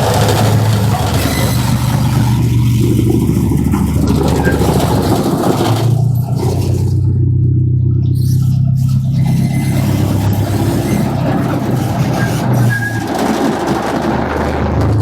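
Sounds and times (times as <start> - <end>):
ride train engine hum: 0.0 - 15.0
train rattling on track: 0.0 - 15.0.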